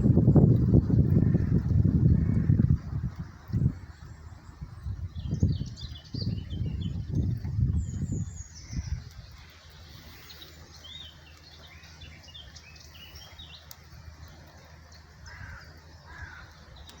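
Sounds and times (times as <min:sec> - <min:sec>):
birds chirping: 0:00.0 - 0:17.0
lower bird calls: 0:00.0 - 0:17.0.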